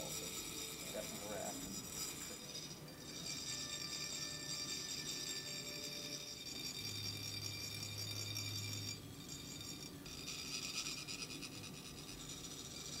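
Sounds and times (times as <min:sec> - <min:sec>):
metallic scraping: 0:00.0 - 0:13.0.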